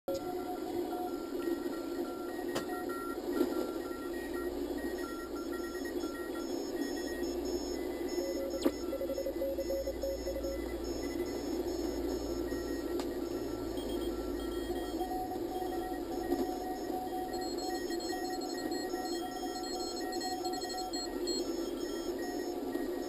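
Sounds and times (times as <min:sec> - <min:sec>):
morse code tones: 0:00.1 - 0:23.0
receiver hiss: 0:00.1 - 0:23.0
static clicks: 0:00.1 - 0:23.0.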